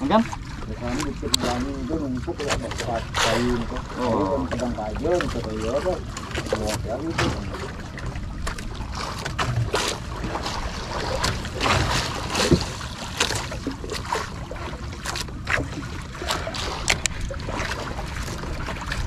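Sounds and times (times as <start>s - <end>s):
water lapping against boat hull: 0.0s - 19.0s
wind rumbling on microphone: 0.0s - 19.0s.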